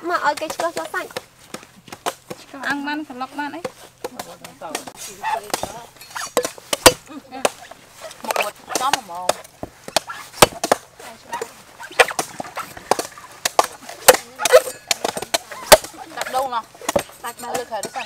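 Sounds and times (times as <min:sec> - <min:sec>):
cleaver chopping coconut husk: 0:00.0 - 0:18.0.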